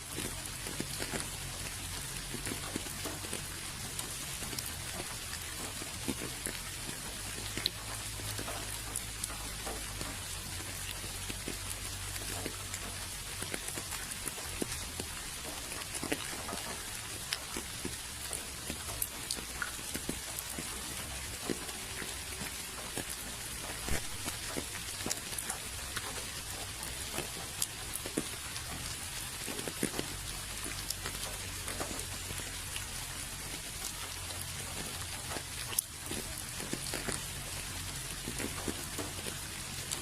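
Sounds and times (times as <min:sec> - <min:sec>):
raindrops tapping: 0:00.0 - 0:40.0
steady rain falling: 0:00.0 - 0:40.0.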